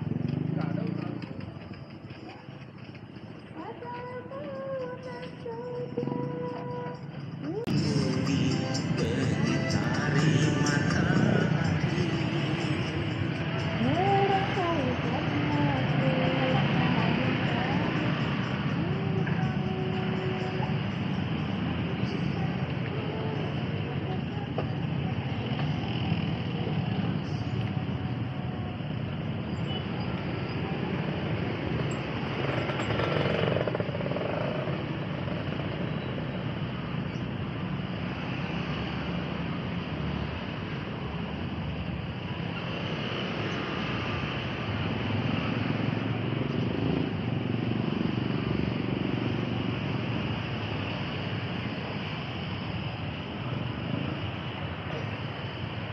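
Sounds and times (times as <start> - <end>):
car engines passing: 0.0 - 3.8, 7.1 - 55.9
motorbike engines passing: 0.0 - 55.9.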